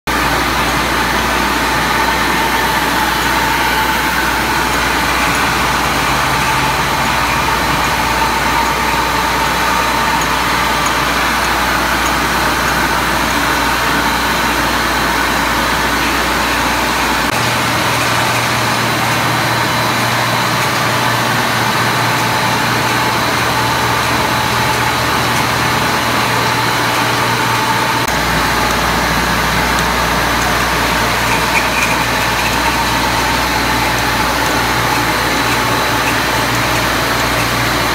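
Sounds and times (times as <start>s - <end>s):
bottling machinery running: 0.1s - 37.9s
low machine hum: 0.1s - 37.9s.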